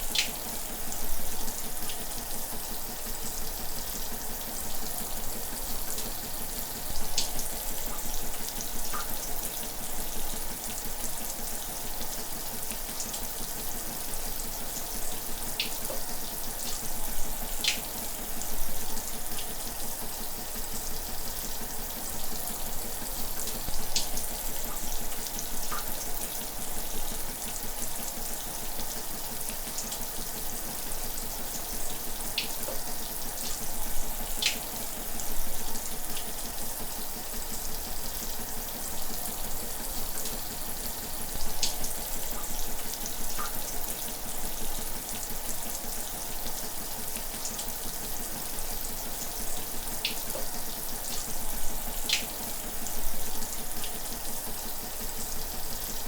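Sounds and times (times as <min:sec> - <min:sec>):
drips and splashes: 0:00.0 - 0:03.1, 0:06.0 - 0:12.0, 0:14.4 - 0:56.0
shower water running: 0:00.0 - 0:56.0.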